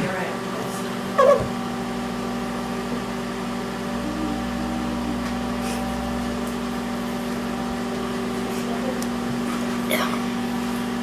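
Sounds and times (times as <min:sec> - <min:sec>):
fan whirring: 0:00.0 - 0:11.0
microwave oven humming: 0:00.0 - 0:11.0.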